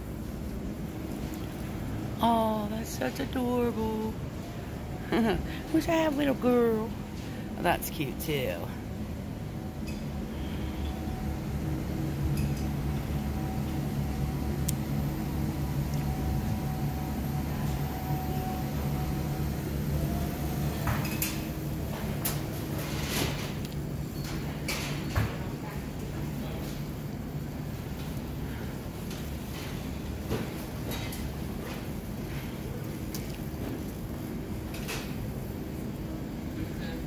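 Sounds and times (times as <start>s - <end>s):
low shop rumble: 0.0s - 37.0s
supermarket background hum: 0.0s - 37.0s.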